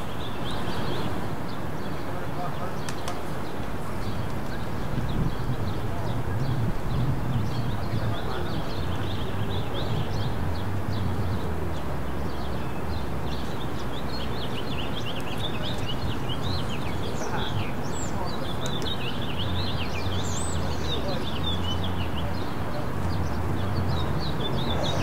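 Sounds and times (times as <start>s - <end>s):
city traffic rumble: 0.0s - 25.0s
small birds chirping: 0.0s - 25.0s.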